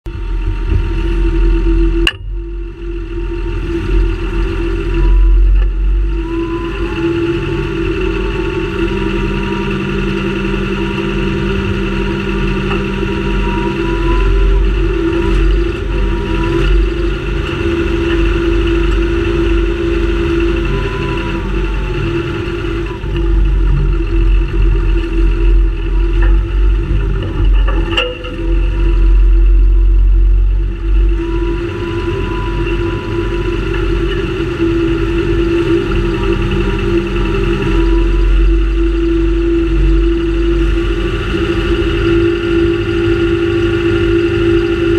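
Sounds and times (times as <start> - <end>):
engine whine: 0.0 - 44.9
tractor diesel engine driving: 0.0 - 44.9.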